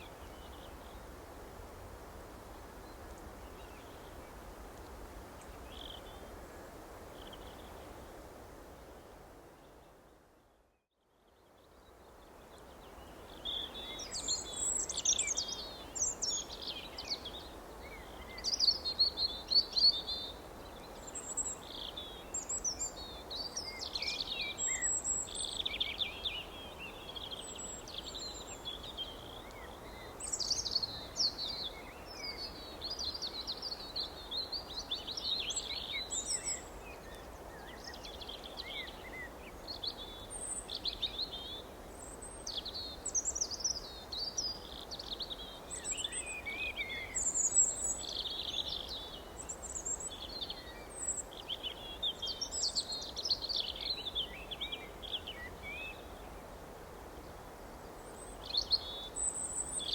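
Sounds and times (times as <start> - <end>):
background hiss: 0.0 - 59.9
songbirds chirping and twittering: 9.0 - 59.9.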